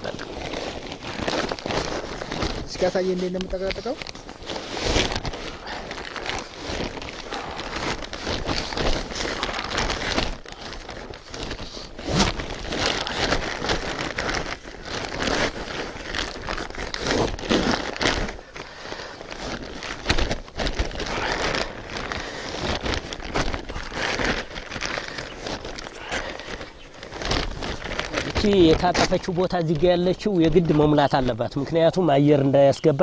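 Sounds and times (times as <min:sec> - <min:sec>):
straw and plastic rustling: 0:00.0 - 0:33.0.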